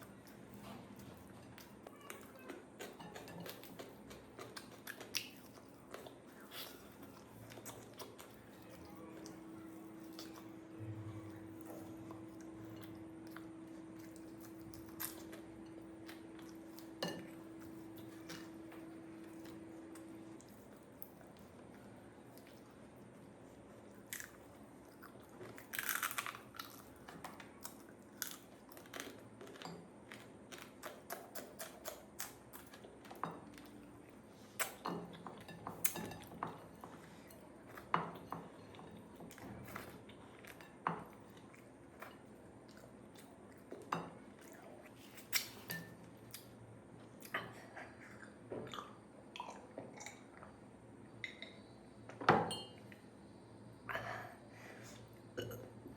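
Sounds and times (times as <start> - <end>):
person chewing food: 2.6 - 9.4, 11.5 - 50.6.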